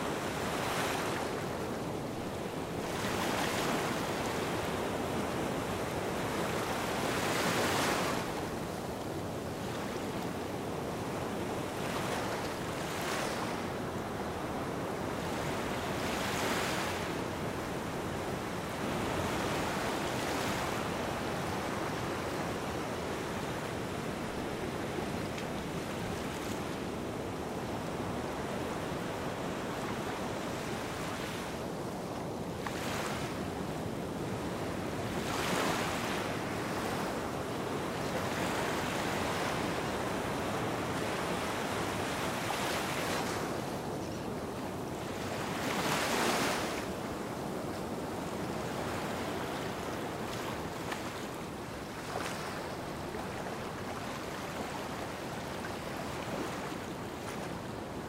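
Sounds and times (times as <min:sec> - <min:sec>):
waves breaking on sandy beach: 0:00.0 - 0:58.0.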